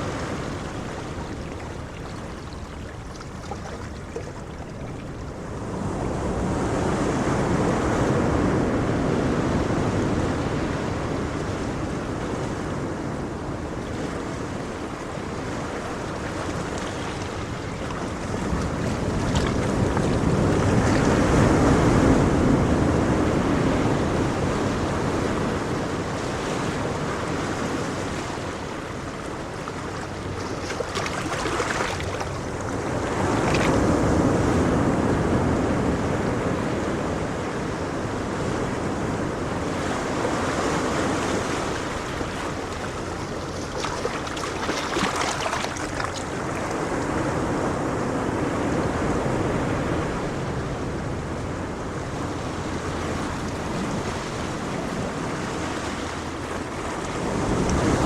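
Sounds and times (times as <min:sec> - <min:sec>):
ocean waves breaking ashore: 0:00.0 - 0:58.0.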